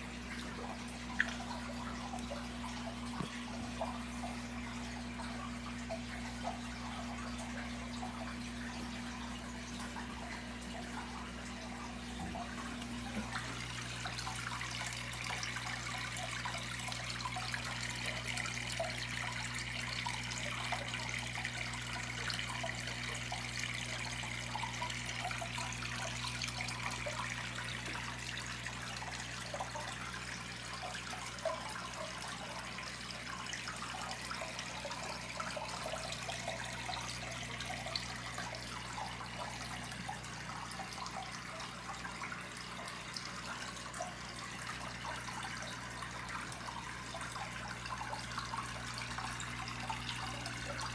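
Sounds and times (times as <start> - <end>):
aquarium pump hum: 0.0 - 50.9
water trickling and bubbling: 0.0 - 50.9.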